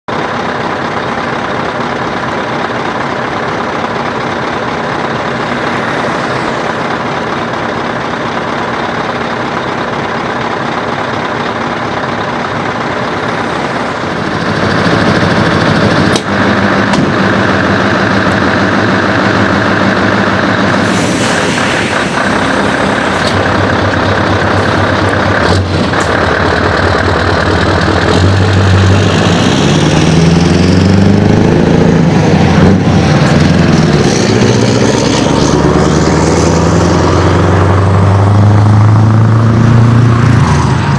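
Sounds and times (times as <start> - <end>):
truck engine running: 0.1 - 40.9.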